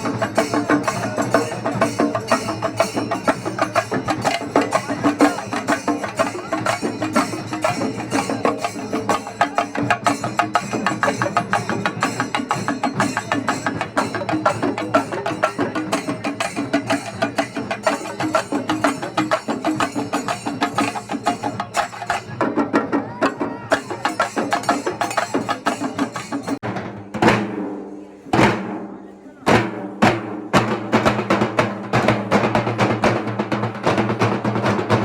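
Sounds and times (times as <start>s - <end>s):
percussion ensemble drumming fast: 0.0s - 35.0s.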